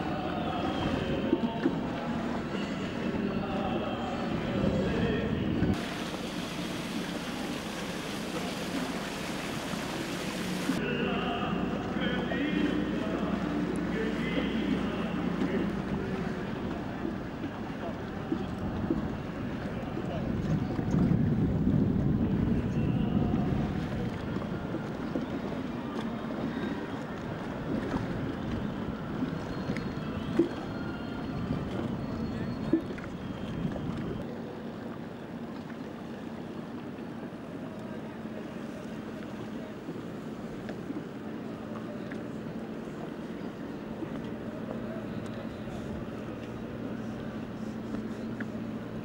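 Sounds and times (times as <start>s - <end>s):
wind: 0.0s - 49.0s
water rushing: 5.1s - 49.0s.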